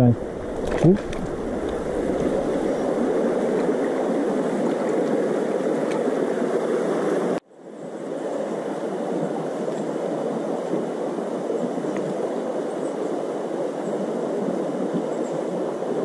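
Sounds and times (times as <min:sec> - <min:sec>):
stream water gurgling: 0:00.0 - 0:16.0.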